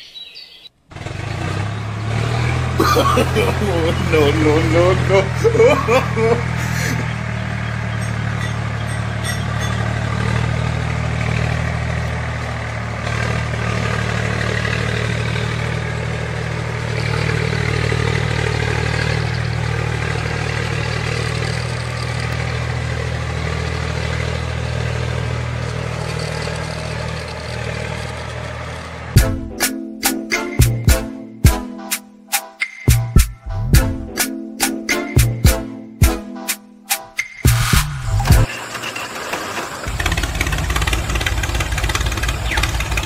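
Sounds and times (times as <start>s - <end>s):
small tractor engine droning: 0.2s - 30.0s, 38.0s - 43.0s.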